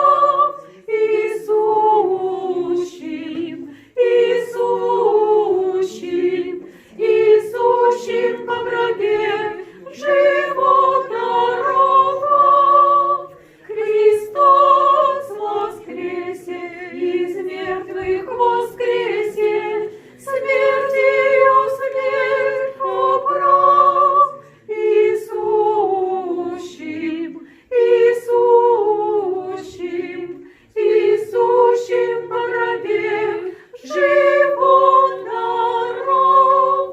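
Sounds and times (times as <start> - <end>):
choir singing a cappella chant: 0.0 - 36.9.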